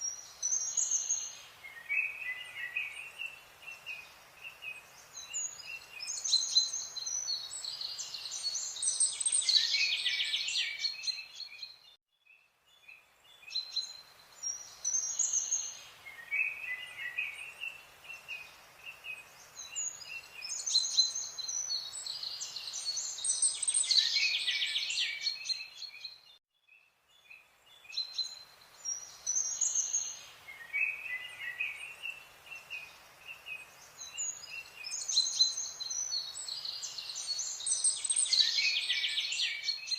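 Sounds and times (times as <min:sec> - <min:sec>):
birds chirping and singing: 0:00.4 - 0:11.9, 0:13.5 - 0:26.4, 0:27.2 - 0:39.9.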